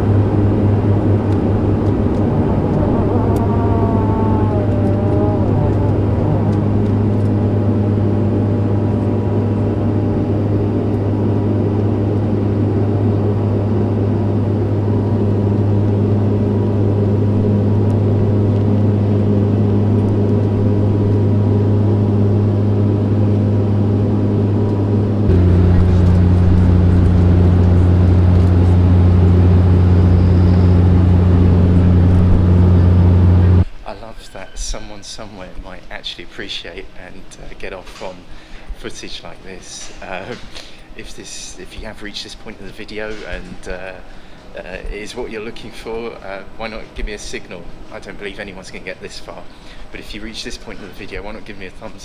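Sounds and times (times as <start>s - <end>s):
propeller drone inside airliner cabin: 0.0s - 33.7s, 43.4s - 52.0s.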